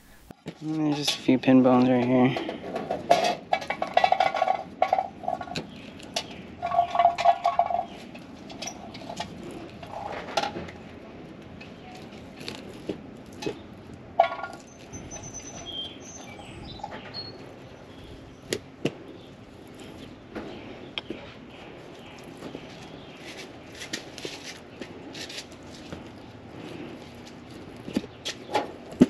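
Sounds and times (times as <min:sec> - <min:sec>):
small birds chirping: 0:04.9 - 0:10.1, 0:10.7 - 0:29.0.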